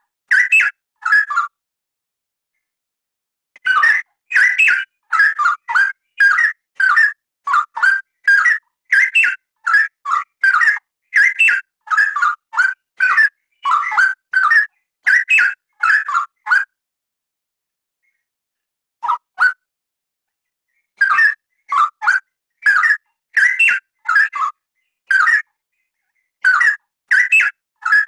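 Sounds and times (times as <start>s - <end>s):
bird singing warbled phrases: 0.3s - 1.6s, 3.6s - 16.8s, 18.0s - 18.3s, 19.0s - 19.7s, 20.7s - 28.0s.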